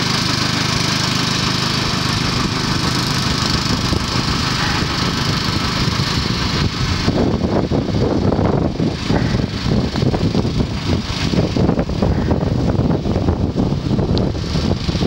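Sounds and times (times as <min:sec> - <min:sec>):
paddle wheels splashing water: 0:00.0 - 0:15.0
small engine running: 0:00.0 - 0:15.0
uneven low rumble: 0:02.4 - 0:15.0.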